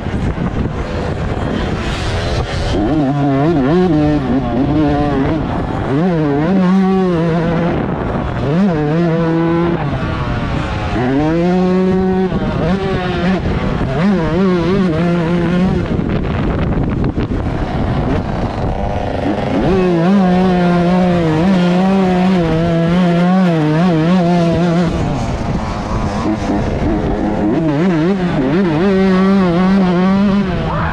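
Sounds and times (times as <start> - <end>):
two-stroke motocross engine revving: 0.0 - 30.9.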